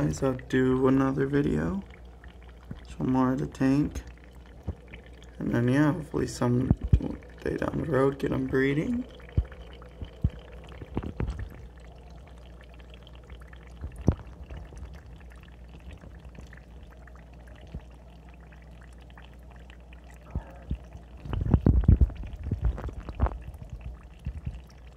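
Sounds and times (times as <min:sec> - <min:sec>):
water trickling: 0:00.0 - 0:24.9.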